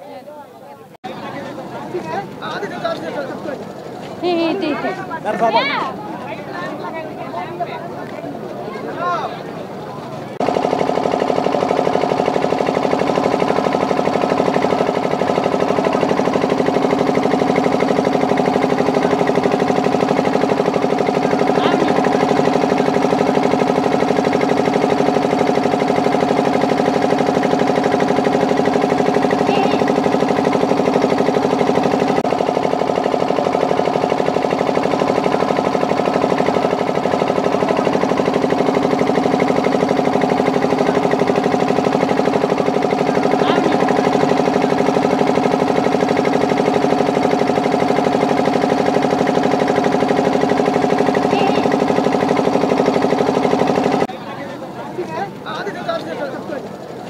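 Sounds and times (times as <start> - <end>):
outboard motor idling: 1.0 - 57.0.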